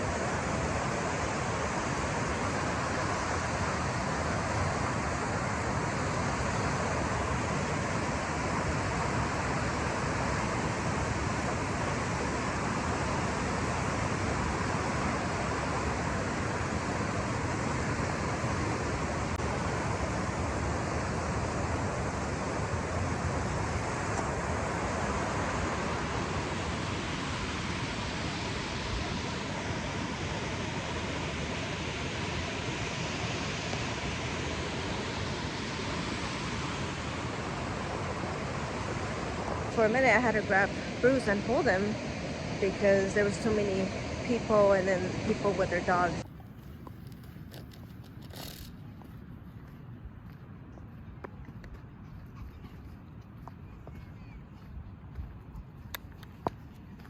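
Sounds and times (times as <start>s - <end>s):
stream water rushing: 0.0s - 47.6s.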